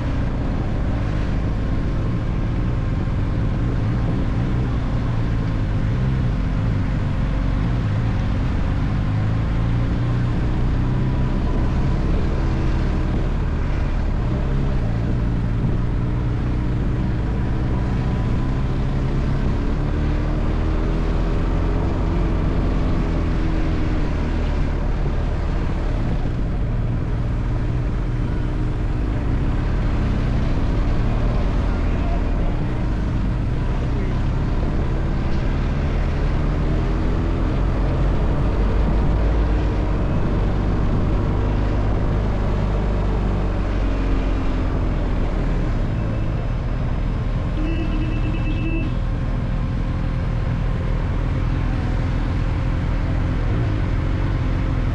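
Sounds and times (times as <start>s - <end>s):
road noise: 0.0s - 54.9s
vehicle engine running: 0.0s - 54.9s.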